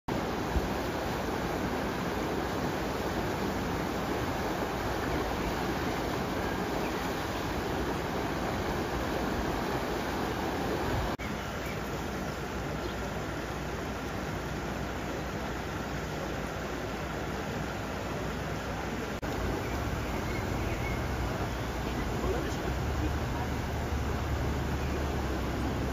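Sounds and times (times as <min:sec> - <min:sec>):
floodwater rushing: 0:00.1 - 0:25.9.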